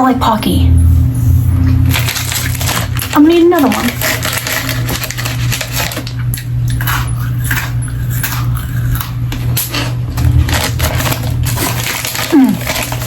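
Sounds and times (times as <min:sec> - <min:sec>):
steady low hum: 0:00.0 - 0:13.0
chewing and crunching biscuit sticks: 0:01.9 - 0:13.0.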